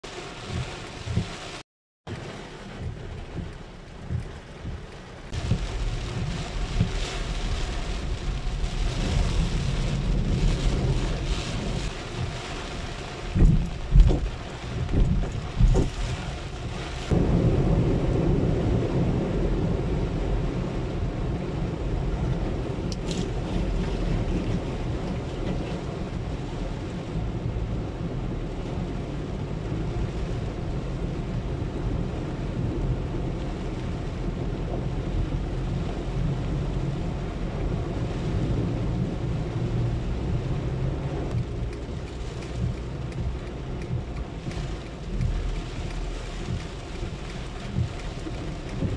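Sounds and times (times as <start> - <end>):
heavy rain on car: 0.0 - 48.9
low road rumble: 0.0 - 48.9.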